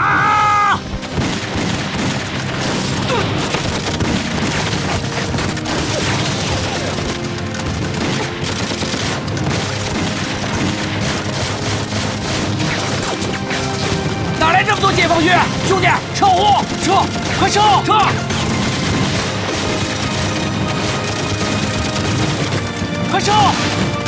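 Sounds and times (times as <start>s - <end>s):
background music: 0.0s - 24.0s
explosions: 0.8s - 24.0s
rifle and pistol gunfire: 0.8s - 24.0s.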